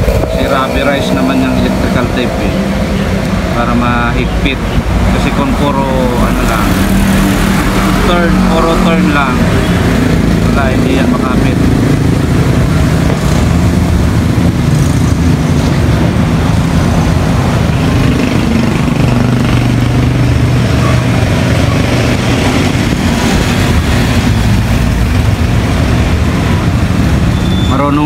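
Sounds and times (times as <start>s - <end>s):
loud mechanical rumble: 0.0s - 28.0s.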